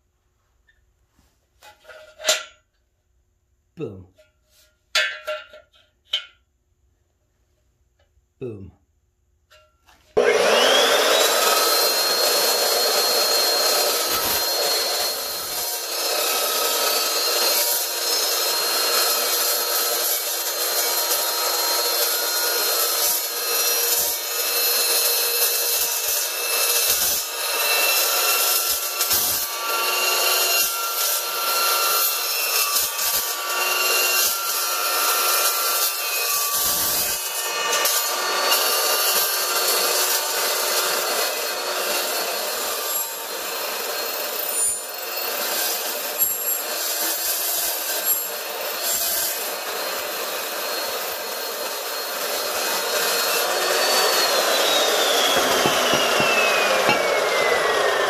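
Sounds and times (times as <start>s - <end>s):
saw scraping through metal: 9.6s - 58.0s
chop saw high whine: 10.2s - 58.0s.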